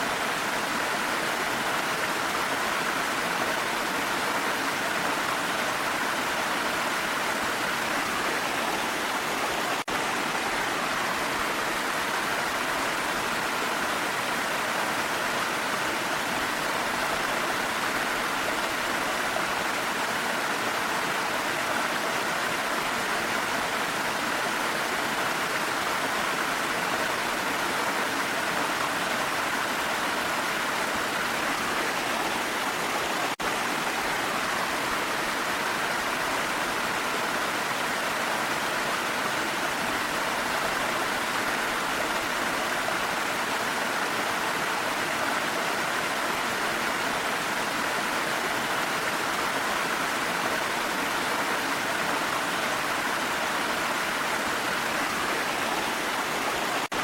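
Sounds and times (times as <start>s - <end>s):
rain: 0.0s - 57.0s
waterfall rushing: 0.0s - 57.0s.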